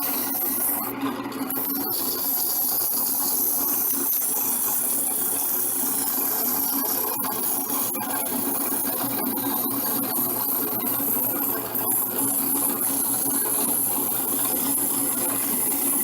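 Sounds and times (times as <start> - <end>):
drill press motor humming: 0.0 - 16.0.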